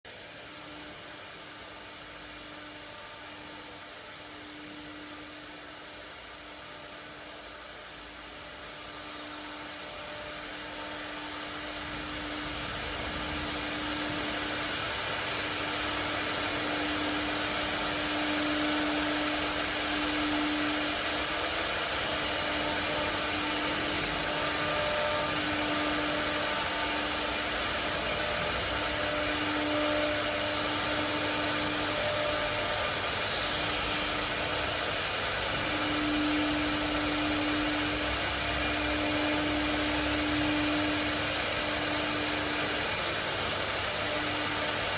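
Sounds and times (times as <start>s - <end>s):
cnc router whirring: 0.1s - 44.9s
machine hum: 0.1s - 44.9s.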